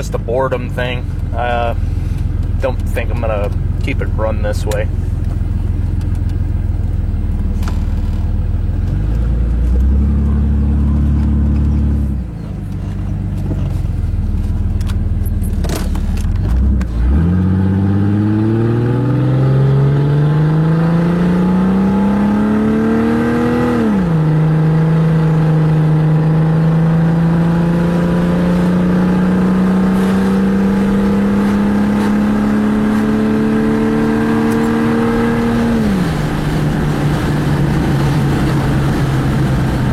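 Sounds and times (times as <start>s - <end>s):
car engine rumbling without muffler: 0.0s - 39.9s.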